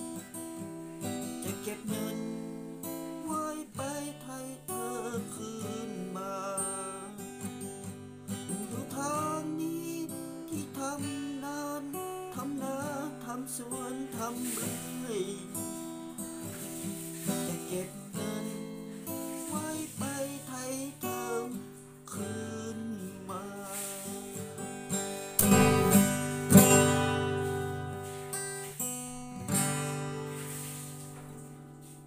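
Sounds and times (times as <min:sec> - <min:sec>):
acoustic guitar picking and strumming: 0:00.0 - 0:32.0.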